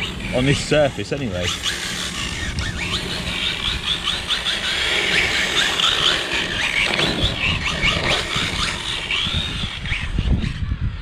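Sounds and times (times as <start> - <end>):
rc car motor whining: 0.0 - 11.0
wind buffeting microphone: 0.0 - 11.0.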